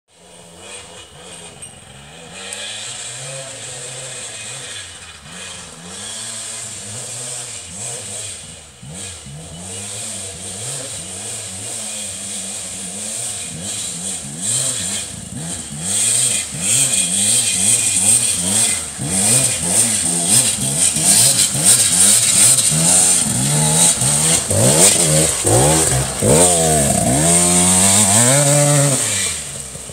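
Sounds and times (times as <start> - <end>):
dirt bike engine revving: 0.1 - 29.9.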